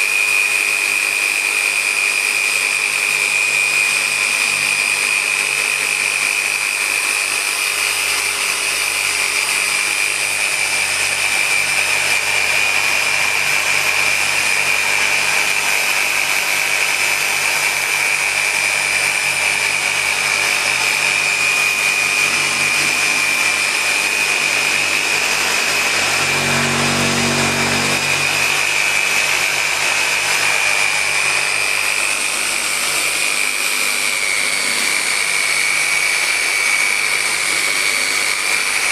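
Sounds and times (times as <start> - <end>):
orbital polisher whining: 0.0 - 38.9.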